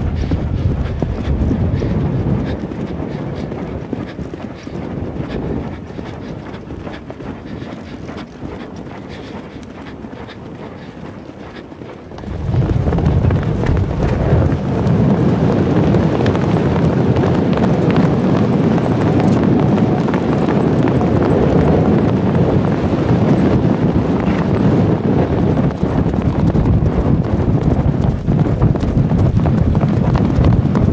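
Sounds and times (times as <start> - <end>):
horses galloping: 0.0 - 30.9
wind on microphone: 0.0 - 30.9.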